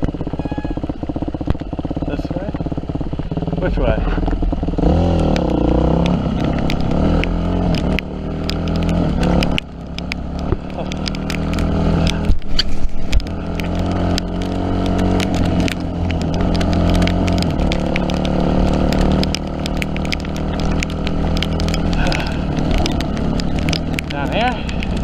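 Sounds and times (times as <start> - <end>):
dirt bike engine revving: 0.1 - 12.4, 13.1 - 25.0
sharp ticks: 4.2 - 25.0.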